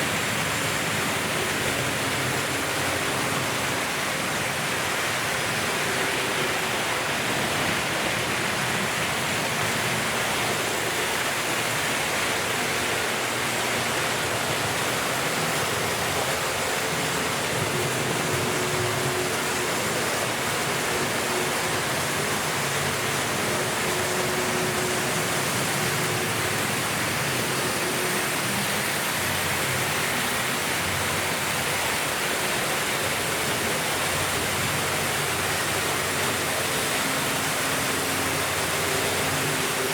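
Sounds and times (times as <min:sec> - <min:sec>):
thin motor whine: 0:00.0 - 0:39.9.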